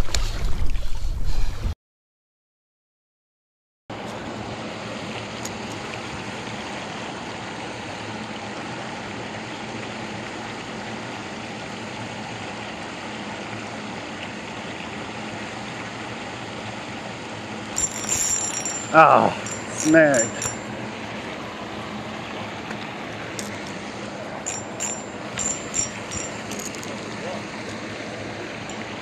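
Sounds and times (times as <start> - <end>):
water rushing over spillway: 3.9 - 29.0.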